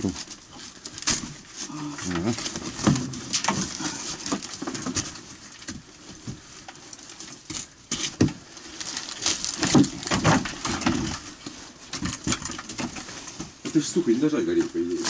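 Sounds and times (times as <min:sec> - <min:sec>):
wood cracking: 0:00.0 - 0:15.0.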